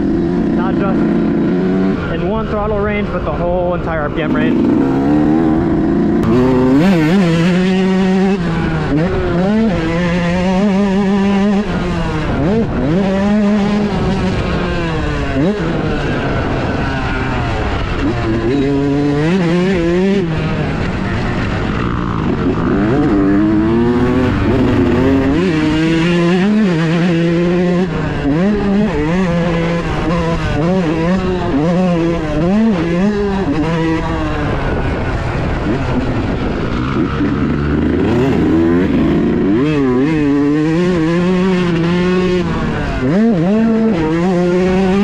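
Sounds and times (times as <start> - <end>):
two-stroke motorcycle engine revving: 0.0 - 45.0.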